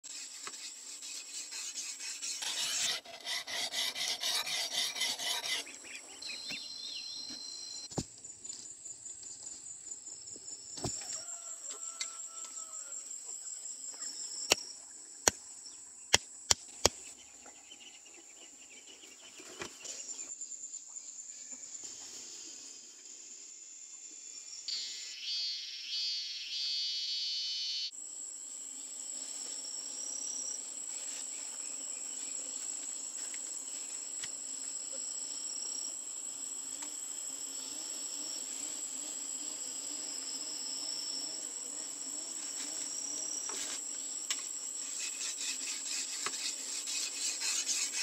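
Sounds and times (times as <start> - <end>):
loud pulsing insect call: 0.1 - 16.1, 20.3 - 48.0.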